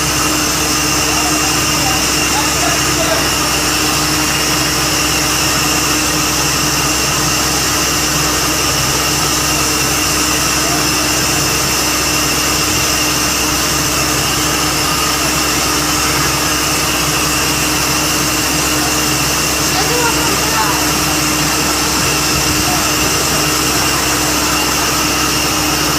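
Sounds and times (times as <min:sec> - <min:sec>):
drilling rig machine noise: 0:00.0 - 0:25.9.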